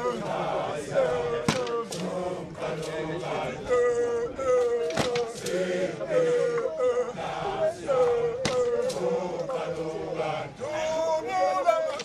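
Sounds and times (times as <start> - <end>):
group of voices chanting: 0.0 - 12.0.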